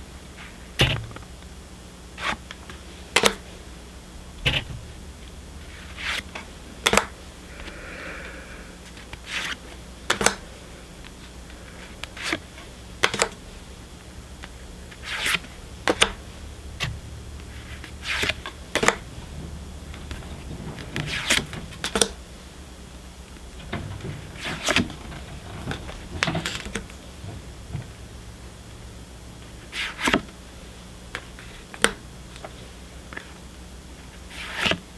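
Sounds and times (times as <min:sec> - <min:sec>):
low steady hum: 0:00.0 - 0:34.9.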